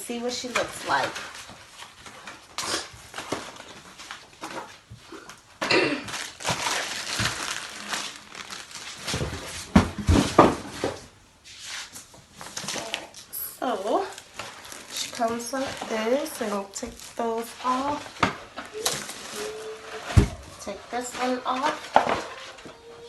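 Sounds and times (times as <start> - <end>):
cardboard rustling and crinkling: 0.1 - 23.0.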